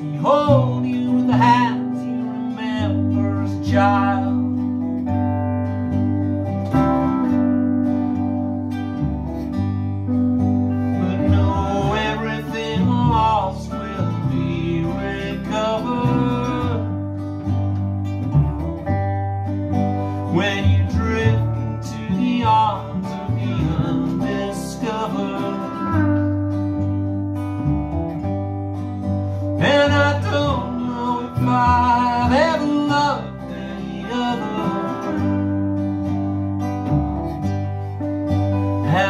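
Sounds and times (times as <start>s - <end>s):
cello bass notes: 0.0s - 39.0s
guitar and ukulele strumming: 0.0s - 39.0s.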